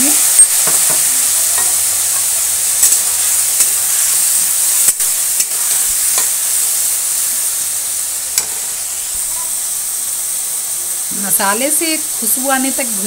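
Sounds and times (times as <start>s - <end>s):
potatoes sizzling in a metal pan: 0.0s - 13.0s.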